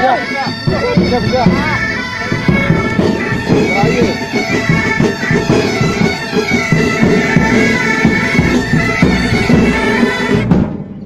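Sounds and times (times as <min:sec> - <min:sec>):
bagpipes playing: 0:00.0 - 0:10.6
drums beating: 0:00.0 - 0:11.0.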